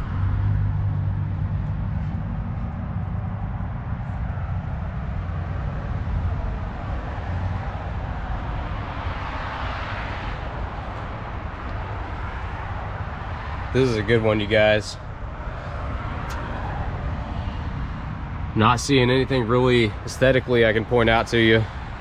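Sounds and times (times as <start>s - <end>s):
distant road traffic hum: 0.0s - 22.0s
vehicle passing: 0.0s - 22.0s.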